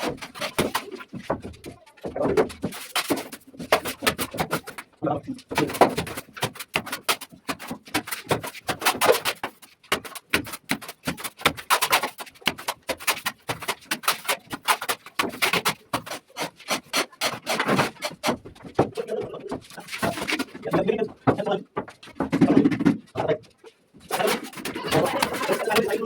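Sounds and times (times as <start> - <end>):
plastering tool scraping plaster: 0.0 - 22.9, 23.6 - 26.0.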